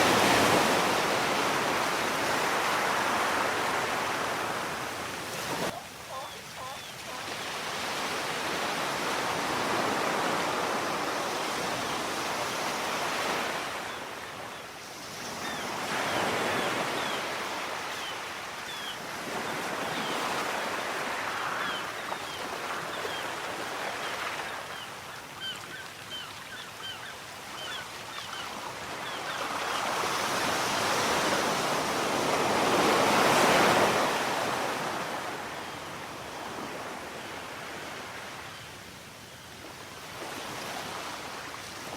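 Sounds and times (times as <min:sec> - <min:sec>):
waves breaking on shore: 0:00.0 - 0:41.9.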